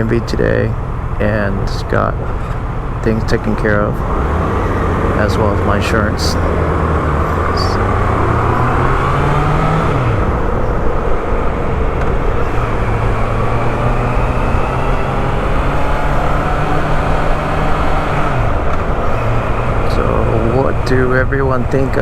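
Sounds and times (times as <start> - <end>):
motorcycle engine running: 0.0 - 22.0
wind noise: 0.0 - 22.0.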